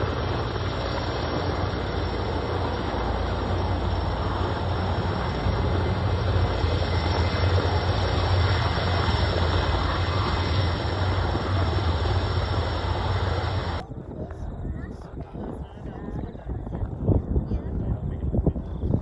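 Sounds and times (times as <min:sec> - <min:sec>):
helicopter rotor rumble: 0:00.0 - 0:19.0.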